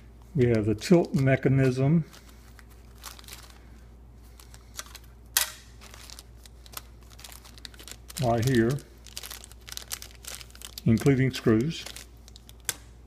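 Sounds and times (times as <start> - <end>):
plastic bags crinkling: 0.4 - 13.0.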